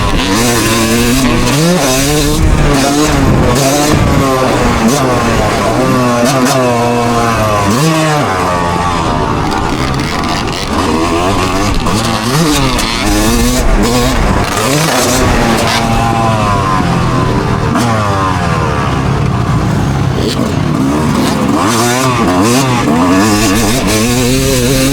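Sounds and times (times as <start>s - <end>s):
vehicle engine revving: 0.0s - 24.9s.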